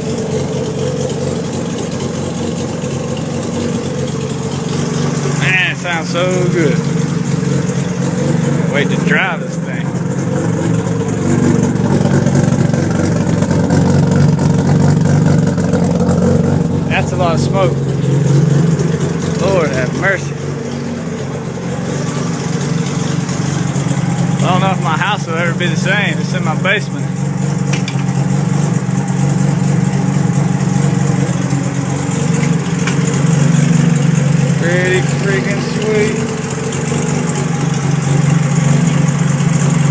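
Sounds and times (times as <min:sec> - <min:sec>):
rotary engine running: 0:00.0 - 0:39.9.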